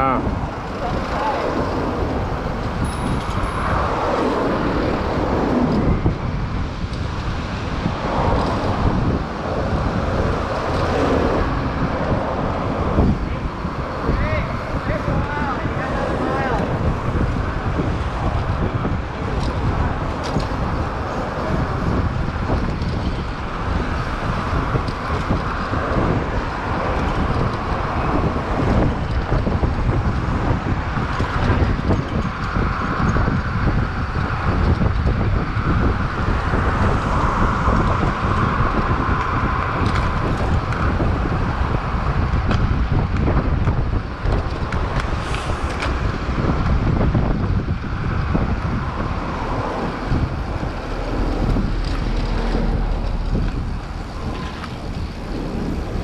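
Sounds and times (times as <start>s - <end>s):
road and traffic noise: 0.0s - 56.0s
wind rushing over microphone: 0.0s - 56.0s.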